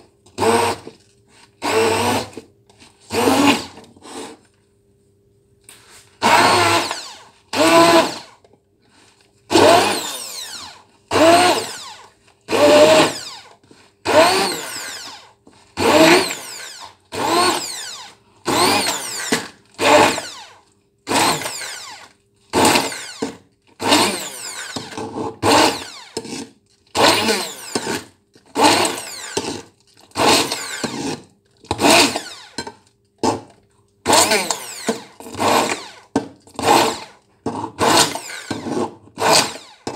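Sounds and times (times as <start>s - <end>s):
stick blender whirring bursts: 0.4s - 0.9s, 1.6s - 2.4s, 3.1s - 4.3s, 6.2s - 8.4s, 9.5s - 26.4s, 27.0s - 32.6s, 34.0s - 39.9s.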